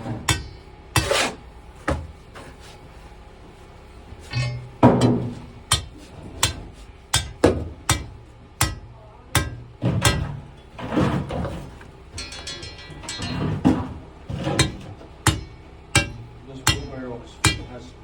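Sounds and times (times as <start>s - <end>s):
sharp knocks and clanks: 0.0s - 2.5s, 4.2s - 17.9s.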